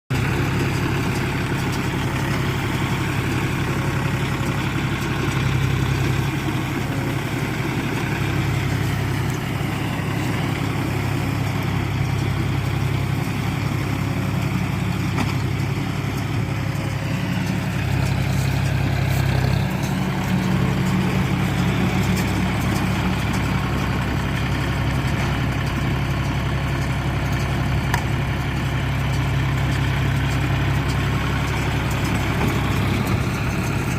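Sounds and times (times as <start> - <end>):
heavy machine engine running: 0.1 - 33.9.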